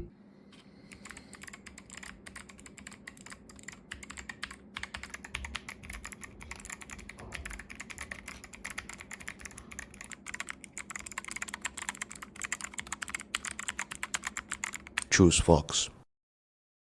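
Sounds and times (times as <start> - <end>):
mechanical keyboard typing: 0.9 - 15.1.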